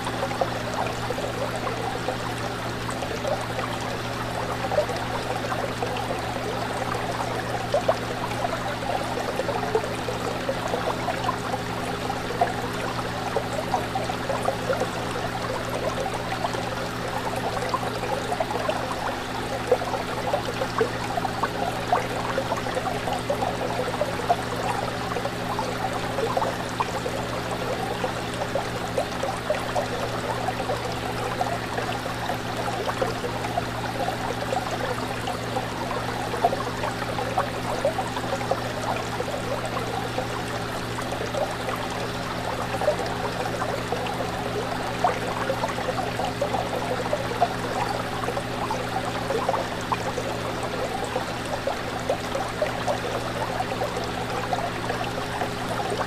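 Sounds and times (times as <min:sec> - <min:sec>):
water trickling and bubbling: 0:00.0 - 0:56.0.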